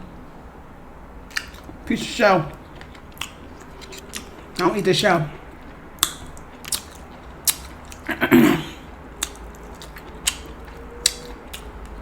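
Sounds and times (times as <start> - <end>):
person chewing crab meat: 1.2 - 12.0.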